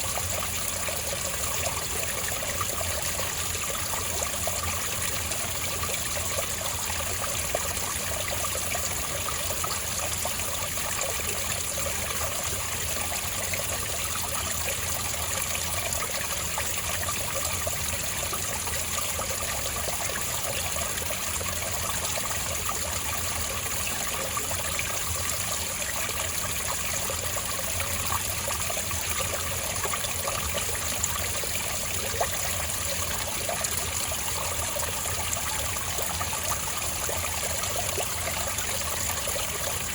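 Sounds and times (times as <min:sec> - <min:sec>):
water trickling over rocks: 0:00.0 - 0:39.9.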